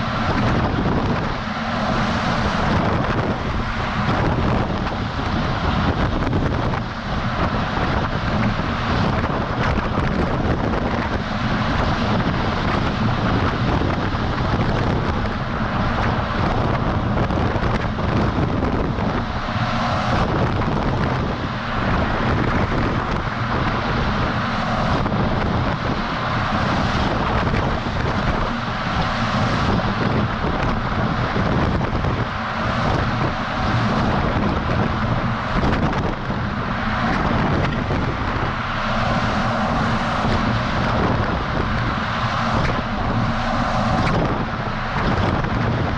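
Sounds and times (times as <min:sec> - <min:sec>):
truck engine: 0:00.0 - 0:45.9
wind rushing over microphone: 0:00.0 - 0:45.9.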